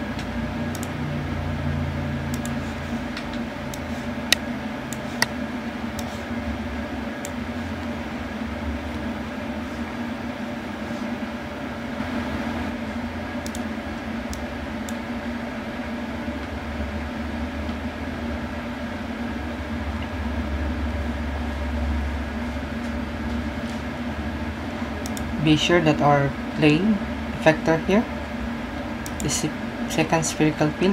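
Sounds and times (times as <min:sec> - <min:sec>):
machine hum with tones: 0:00.0 - 0:30.9.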